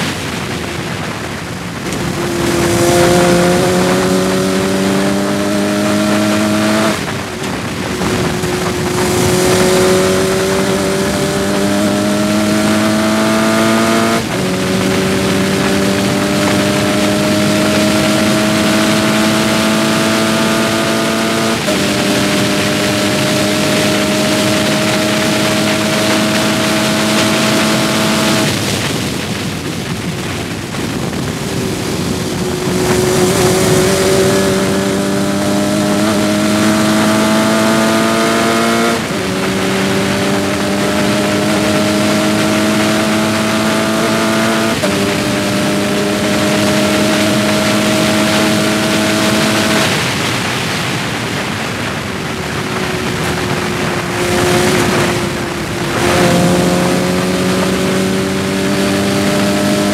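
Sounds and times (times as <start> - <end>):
race car engine at full throttle: 0.0 - 59.9
road noise: 0.0 - 59.9
rushing wind: 0.0 - 59.9.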